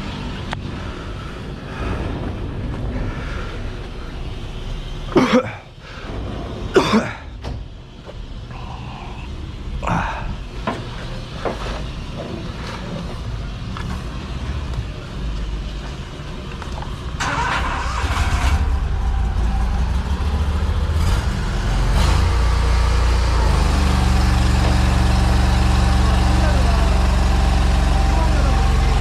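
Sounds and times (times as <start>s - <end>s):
engine running: 5.8s - 29.0s.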